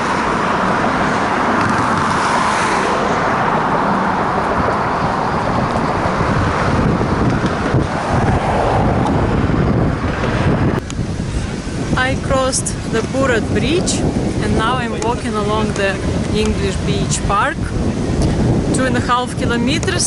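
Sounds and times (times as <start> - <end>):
cars passing close by: 0.0 - 20.0
wind buffeting microphone: 0.0 - 20.0.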